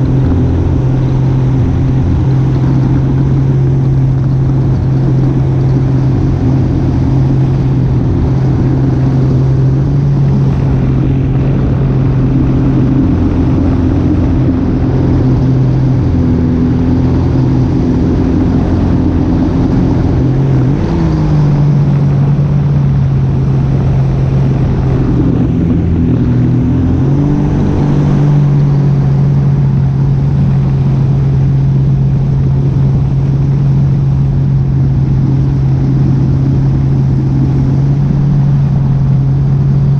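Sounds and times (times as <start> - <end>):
vehicle engine low hum: 0.0 - 39.9.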